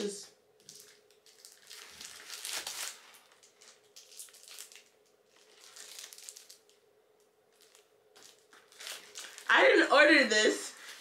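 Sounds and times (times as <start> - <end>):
plastic wrapping crinkling: 0.6 - 9.8, 10.7 - 11.0.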